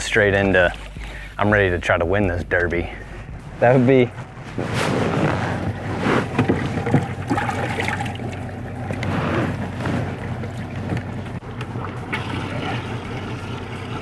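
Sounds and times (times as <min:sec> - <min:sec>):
steady low hum: 0:00.0 - 0:14.0
water splashing and sloshing: 0:00.0 - 0:14.0.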